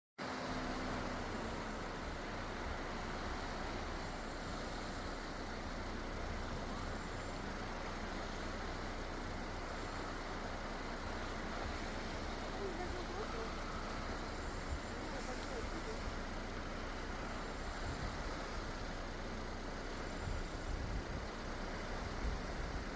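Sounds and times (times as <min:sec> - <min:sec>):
boat engine running: 0:00.2 - 0:22.9.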